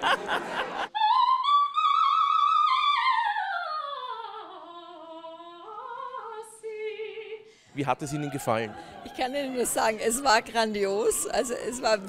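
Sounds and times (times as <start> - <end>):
operatic soprano singing: 0.7 - 12.0.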